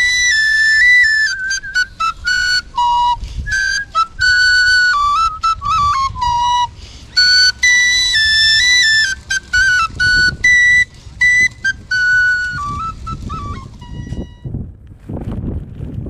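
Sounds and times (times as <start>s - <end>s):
end-blown flute melody: 0.0s - 14.6s.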